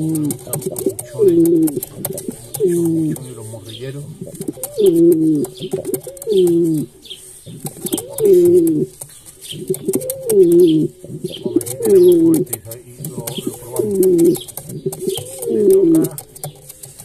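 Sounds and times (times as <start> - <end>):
pigeon cooing: 0.0 - 17.0.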